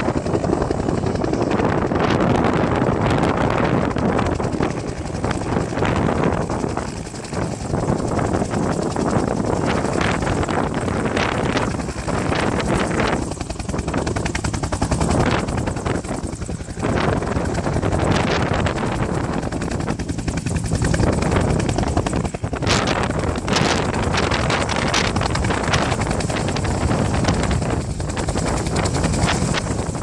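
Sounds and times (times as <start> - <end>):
helicopter rotor chopping: 0.0 - 30.0.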